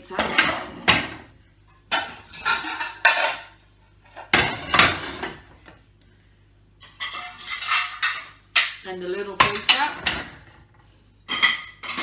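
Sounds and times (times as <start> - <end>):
plates clattering: 0.1 - 5.8, 6.8 - 8.8, 9.4 - 12.0.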